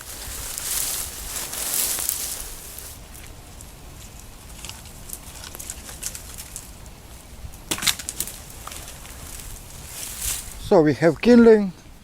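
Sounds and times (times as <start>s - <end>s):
dry grass rustling and crackling: 0.0s - 10.8s.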